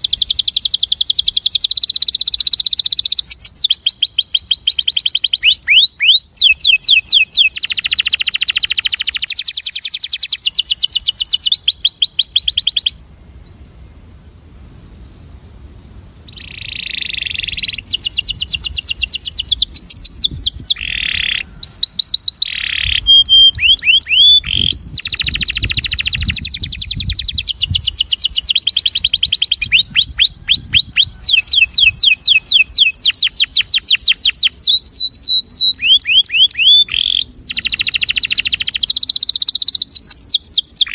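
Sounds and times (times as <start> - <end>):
canary singing trills: 0.0 - 13.6, 16.2 - 40.9.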